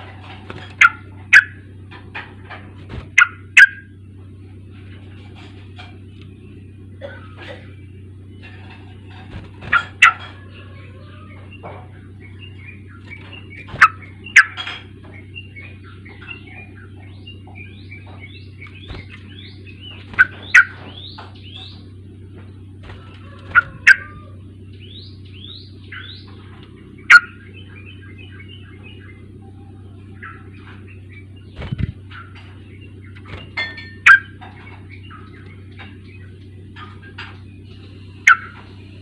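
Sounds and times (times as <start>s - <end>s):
loud sharp bird calls: 0.0s - 4.2s, 5.0s - 39.0s
birds chirping and chattering: 0.0s - 39.0s
steady low hum: 0.0s - 39.0s.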